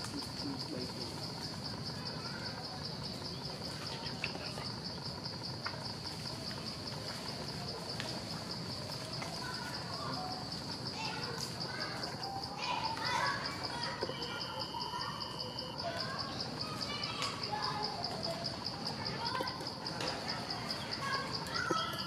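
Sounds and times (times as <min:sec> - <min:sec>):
high pulsing insect trill: 0:00.0 - 0:22.0.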